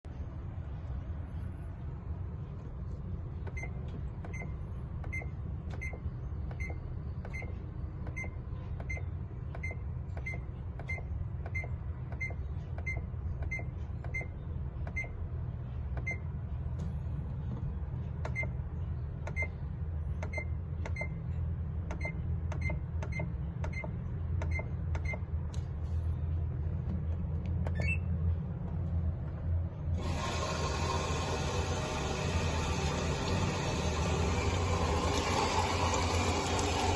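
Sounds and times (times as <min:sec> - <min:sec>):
washing machine humming: 0:00.0 - 0:36.9.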